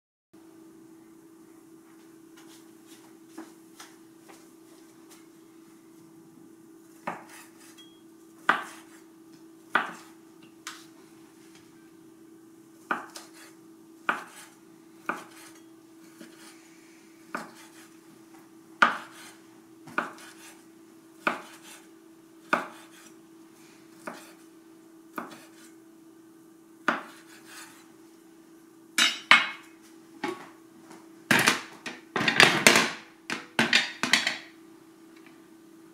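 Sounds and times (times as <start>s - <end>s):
faint steady hum: 0.4s - 35.9s.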